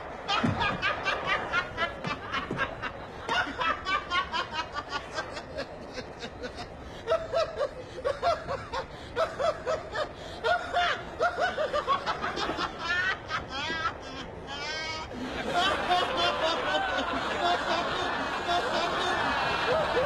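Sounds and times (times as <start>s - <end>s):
person laughing: 0.2s - 20.0s.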